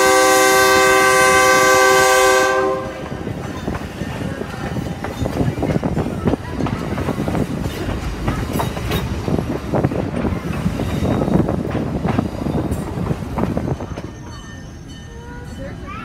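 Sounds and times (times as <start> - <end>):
train clacks and rattles: 0.0 - 16.0
train wheels rumbling on rails: 0.0 - 16.0.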